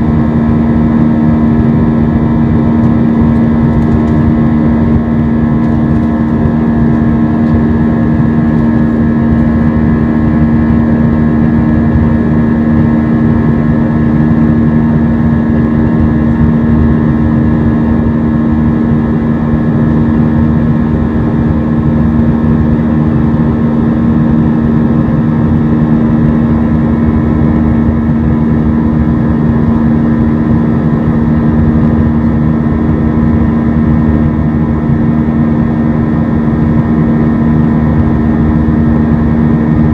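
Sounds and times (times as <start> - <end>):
jet engine drone in cabin: 0.0 - 39.9
rushing airflow: 0.0 - 39.9.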